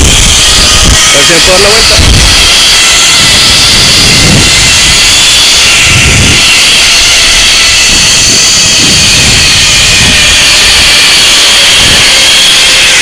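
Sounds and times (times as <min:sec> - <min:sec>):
rushing hiss: 0:00.0 - 0:13.0
zip-line pulleys whining on cable: 0:00.0 - 0:13.0.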